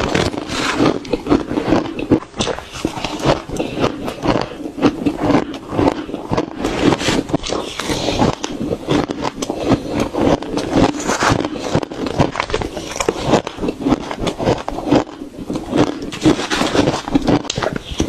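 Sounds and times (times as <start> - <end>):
chewing crunchy ice: 0.0 - 18.0.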